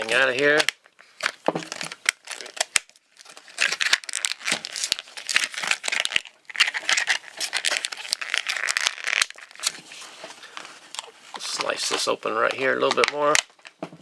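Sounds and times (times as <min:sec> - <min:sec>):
plastic packaging crinkling and tearing: 0:00.0 - 0:13.8.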